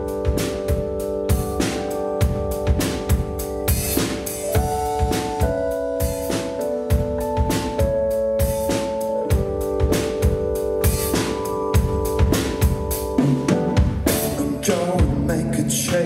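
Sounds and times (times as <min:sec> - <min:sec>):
drum kit beat: 0:00.0 - 0:16.0
keyboard chords: 0:00.0 - 0:16.0.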